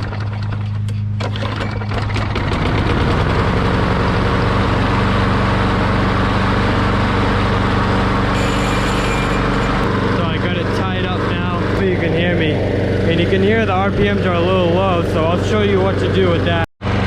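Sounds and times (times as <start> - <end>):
mower engine idling: 0.0 - 17.0.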